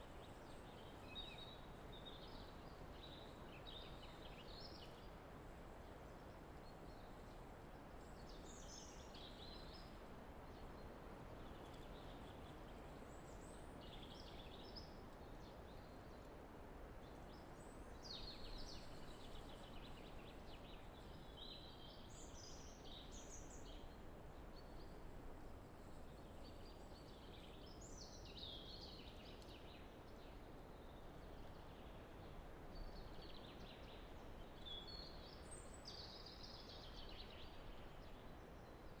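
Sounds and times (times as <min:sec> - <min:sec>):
light wind in trees: 0:00.0 - 0:39.0.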